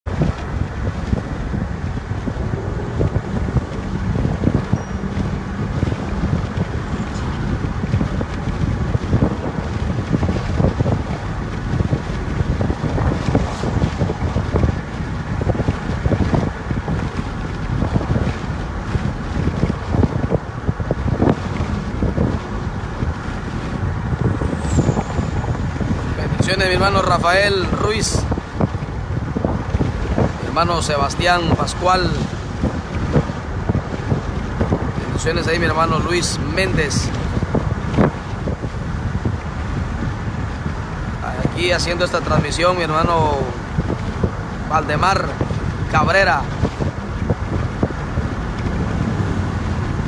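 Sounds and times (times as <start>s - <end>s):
vehicle road rumble: 0.0s - 50.0s
wind buffeting microphone: 0.0s - 50.0s.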